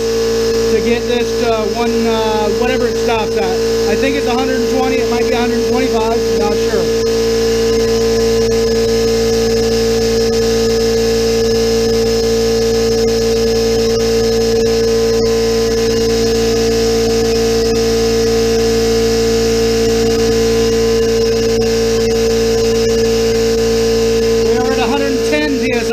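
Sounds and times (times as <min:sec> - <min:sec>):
air compressor humming: 0:00.0 - 0:25.9.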